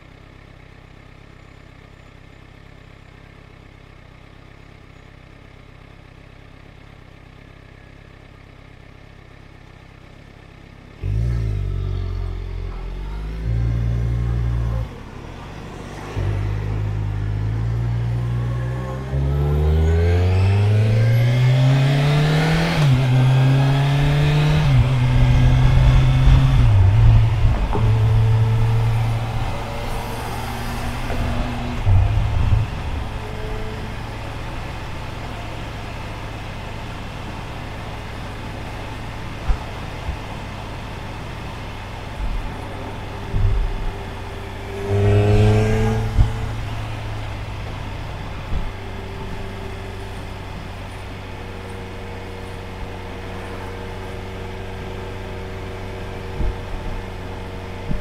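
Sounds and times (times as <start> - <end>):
motorcycle engine revving through gears: 10.8 - 58.0.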